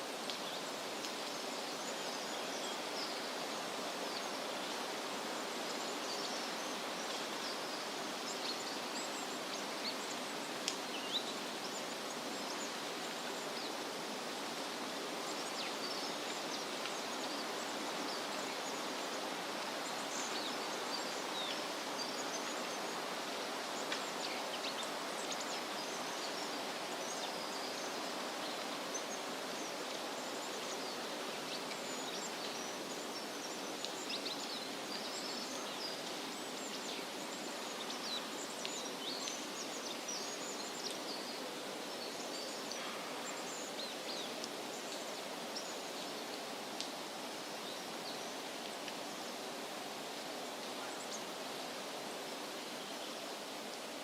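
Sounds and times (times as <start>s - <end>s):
wind rustling through trees: 0.0s - 54.0s.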